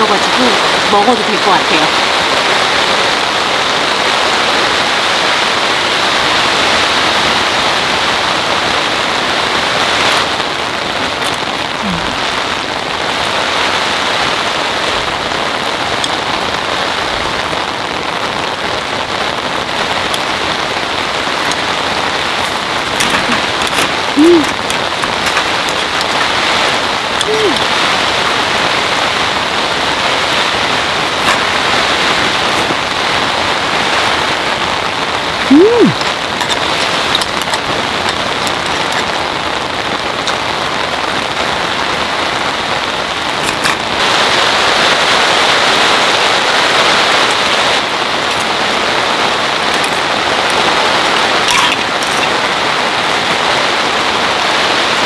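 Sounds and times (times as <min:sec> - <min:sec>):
heavy rain on tent: 0:00.0 - 0:55.0.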